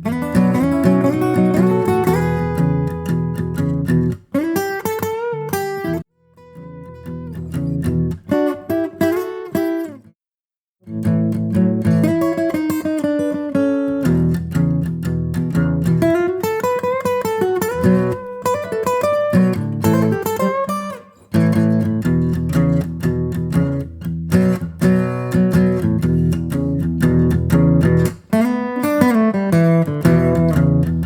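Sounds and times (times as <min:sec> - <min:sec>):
plucked guitar music: 0:00.0 - 0:10.1, 0:10.8 - 0:31.0.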